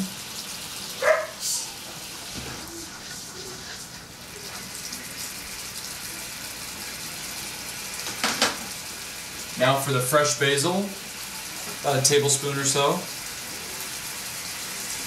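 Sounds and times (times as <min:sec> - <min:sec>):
sauce boiling hard in a pan: 0:00.0 - 0:15.0.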